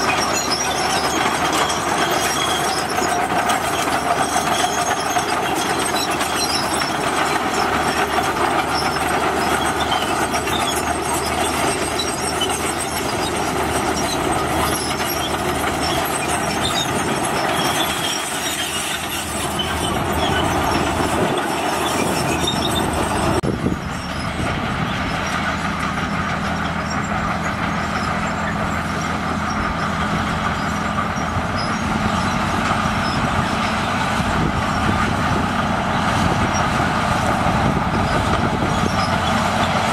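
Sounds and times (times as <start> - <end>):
diesel engine under load: 0.0 - 39.9
steel tracks clanking: 0.0 - 39.9.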